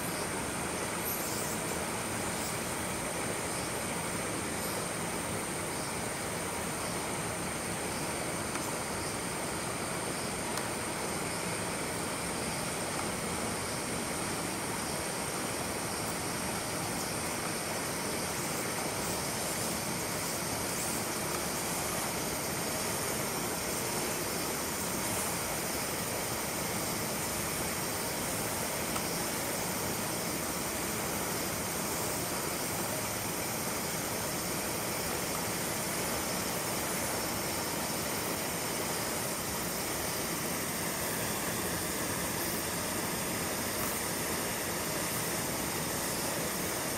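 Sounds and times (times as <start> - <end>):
thin high whine: 0.0 - 46.9.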